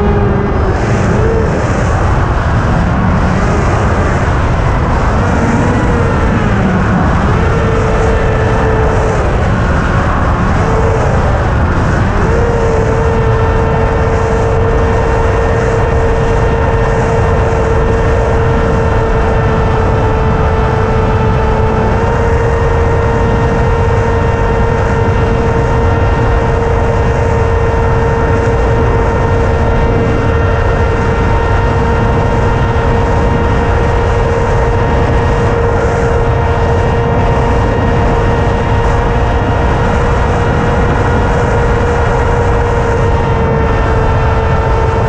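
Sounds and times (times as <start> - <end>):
heavy wind rush: 0.0 - 45.0
model aircraft motor whine: 0.0 - 45.0.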